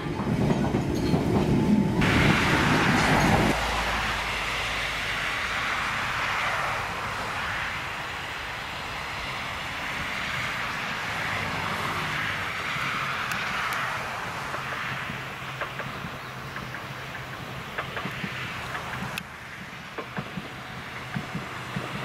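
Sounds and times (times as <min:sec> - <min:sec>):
train approaching: 0:00.0 - 0:22.0
train interior rumble: 0:00.0 - 0:22.0.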